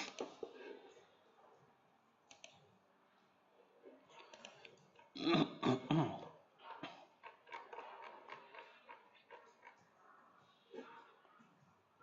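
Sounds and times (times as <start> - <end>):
faint scattered sounds: 0.0 - 12.0.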